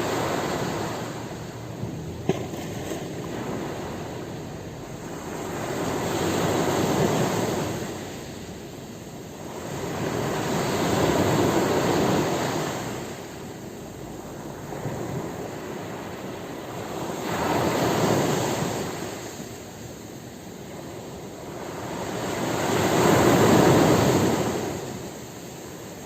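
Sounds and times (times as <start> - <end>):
ocean surf breaking: 0.0 - 19.7, 20.8 - 26.0.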